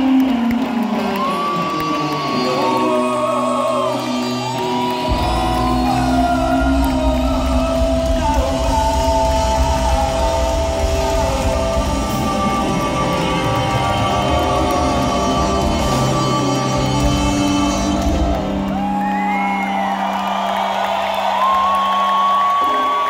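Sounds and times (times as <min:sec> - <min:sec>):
crowd singing and shouting: 0:00.0 - 0:21.0.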